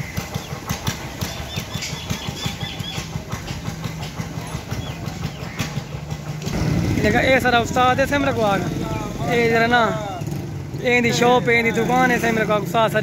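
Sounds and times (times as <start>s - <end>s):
small engine running: 0.0s - 10.6s.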